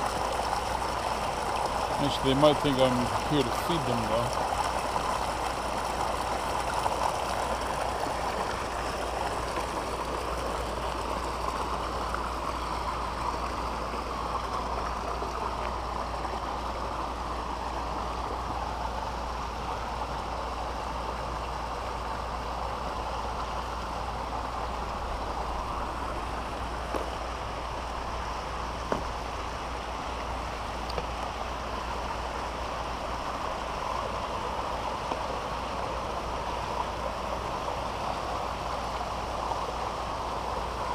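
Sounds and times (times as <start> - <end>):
water rushing into ponds: 0.0 - 40.9.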